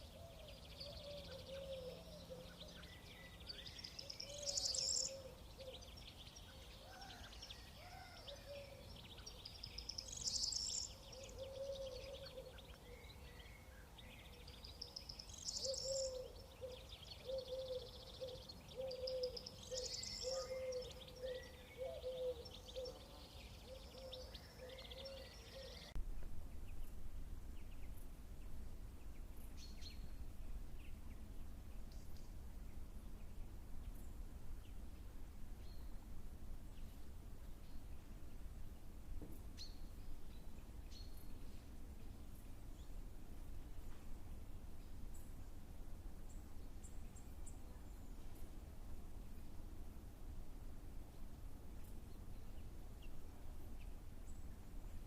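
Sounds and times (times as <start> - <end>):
songbirds singing: 0.0 - 49.6, 51.0 - 55.0.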